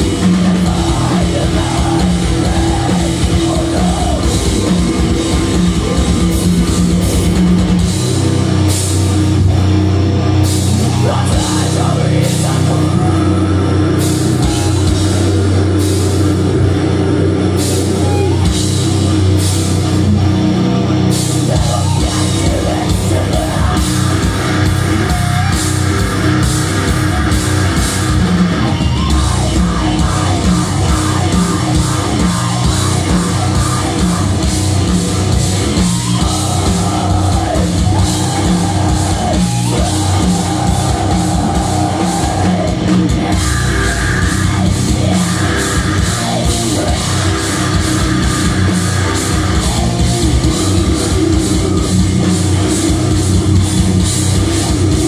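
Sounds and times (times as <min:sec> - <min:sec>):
vocalist singing: 0:00.0 - 0:07.5, 0:10.5 - 0:18.8, 0:21.2 - 0:53.6
bass guitar: 0:00.0 - 0:55.0
distorted electric guitars: 0:00.0 - 0:55.0
drum kit: 0:00.0 - 0:55.0.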